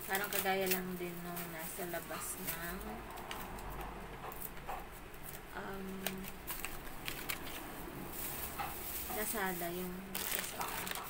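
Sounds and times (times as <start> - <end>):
plastic packaging crinkling: 0.0 - 3.4, 5.2 - 11.0.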